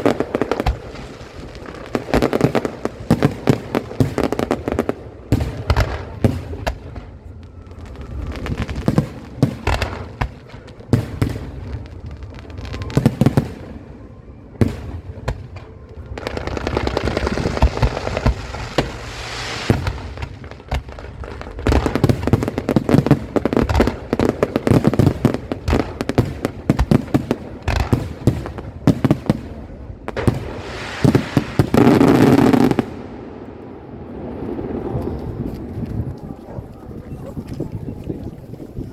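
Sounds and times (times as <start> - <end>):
fireworks hissing crackle: 0.0 - 13.9, 15.3 - 36.4
fireworks bursting bangs: 0.0 - 14.0, 14.6 - 36.4.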